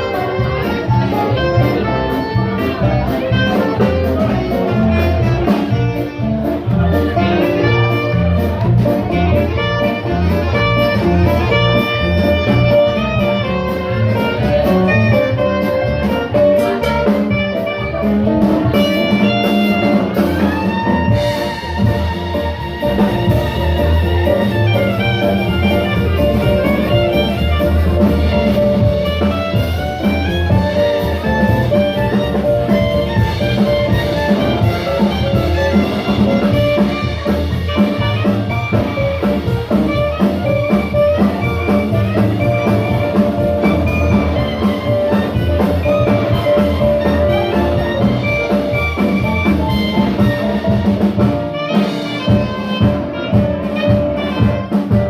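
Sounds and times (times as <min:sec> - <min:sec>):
bass: 0:00.0 - 0:55.0
drums: 0:00.0 - 0:55.0
horns: 0:00.0 - 0:55.0.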